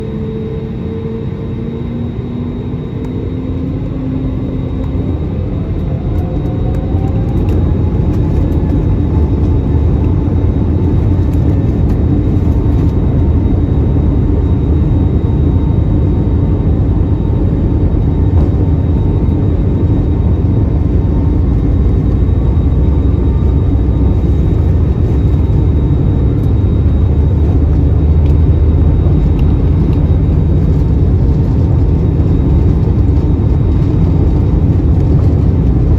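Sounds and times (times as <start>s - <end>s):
jet engines spooling up: 0.0s - 35.9s.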